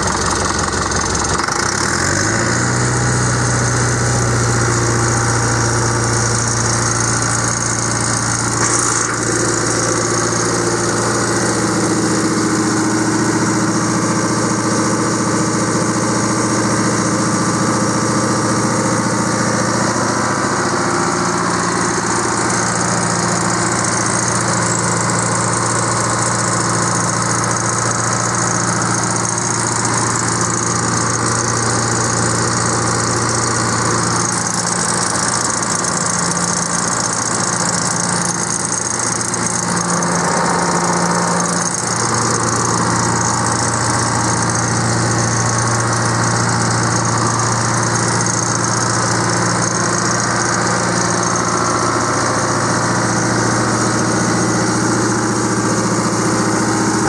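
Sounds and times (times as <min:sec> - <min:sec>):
diesel generator running: 0:00.0 - 0:57.0.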